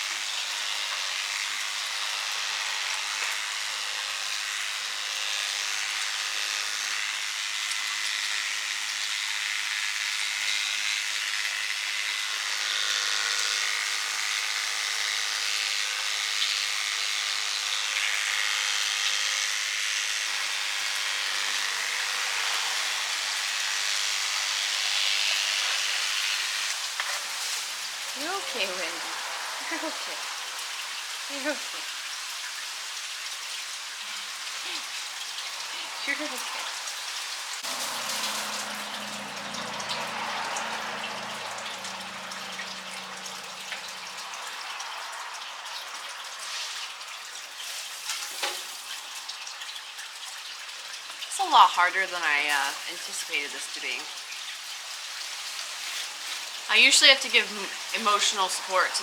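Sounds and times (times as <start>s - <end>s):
electric hair clippers running: 0.0s - 59.0s.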